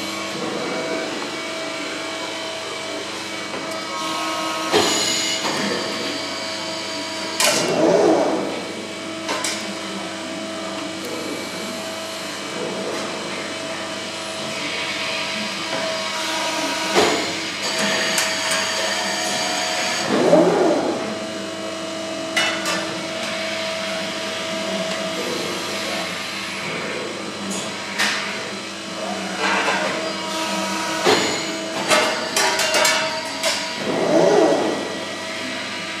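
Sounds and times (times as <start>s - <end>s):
hydraulic press humming: 0.0s - 36.0s.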